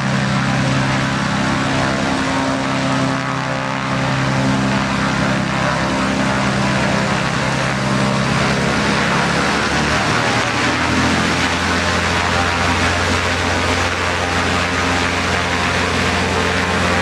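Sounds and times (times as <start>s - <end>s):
quad engines running loudly: 0.0s - 17.0s.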